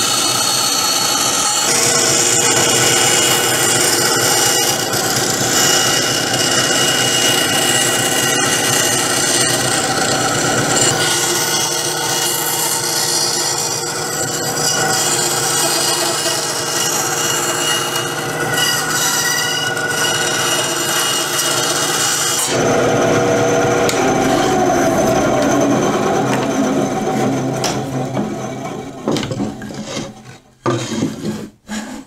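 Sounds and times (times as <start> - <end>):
band saw motor hum: 0.0 - 29.8.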